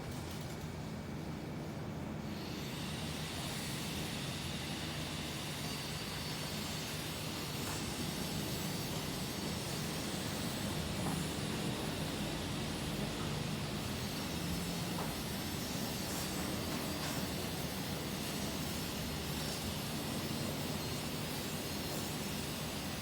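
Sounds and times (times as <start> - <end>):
high turbine whine and hiss: 1.0 - 23.0.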